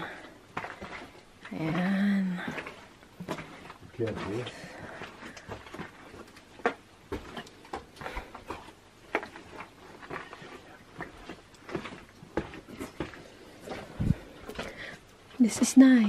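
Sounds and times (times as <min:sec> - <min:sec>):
footsteps on walkway: 0:00.0 - 0:16.0.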